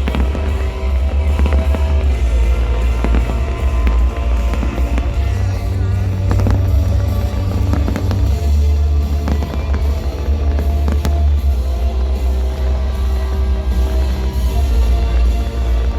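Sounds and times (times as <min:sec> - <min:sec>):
fireworks bursting with bangs: 0:00.0 - 0:15.9
loud music with heavy bass: 0:00.0 - 0:15.9.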